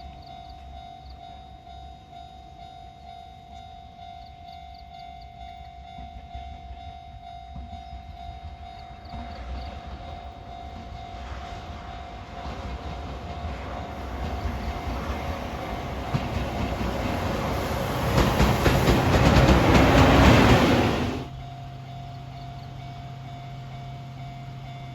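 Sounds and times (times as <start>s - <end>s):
freight train rumble: 0.0s - 24.9s
train wheels clattering on rails: 0.0s - 24.9s.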